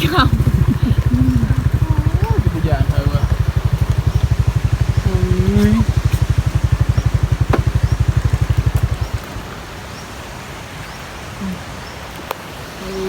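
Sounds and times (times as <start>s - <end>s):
small motorcycle engine idling: 0.0s - 10.7s
floodwater rushing: 0.0s - 13.0s.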